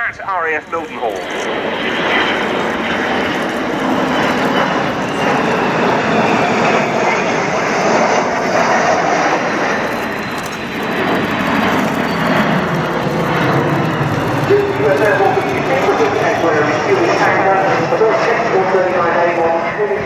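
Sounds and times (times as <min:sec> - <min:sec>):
jet aircraft flying overhead: 0:00.0 - 0:20.0.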